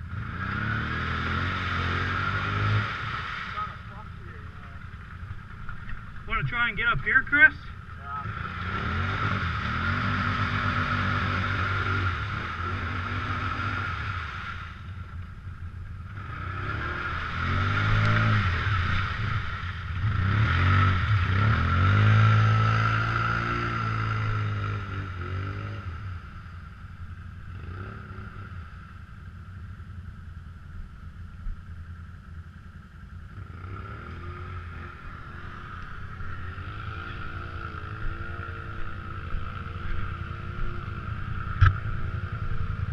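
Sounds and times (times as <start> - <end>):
atv engine revving: 0.0 - 29.2, 32.5 - 42.9
steady engine drone: 0.0 - 42.9.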